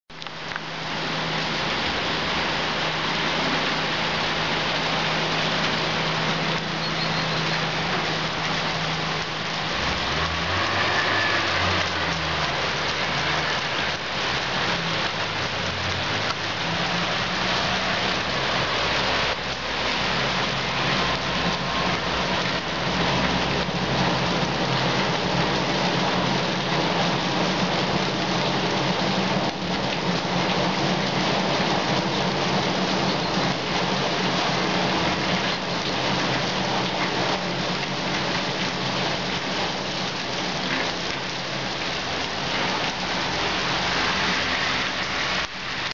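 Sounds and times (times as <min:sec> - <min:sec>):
heavy rain on pavement: 0:00.0 - 0:45.9.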